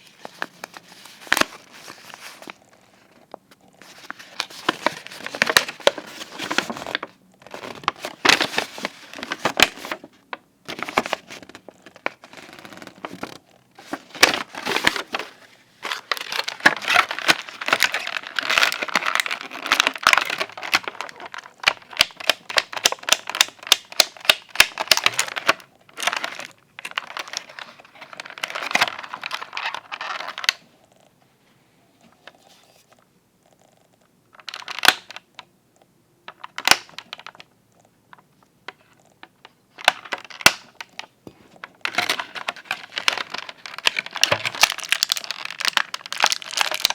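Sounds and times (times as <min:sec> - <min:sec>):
plastic and cardboard crinkling: 0:00.0 - 0:30.6, 0:34.3 - 0:35.3, 0:38.1 - 0:46.9.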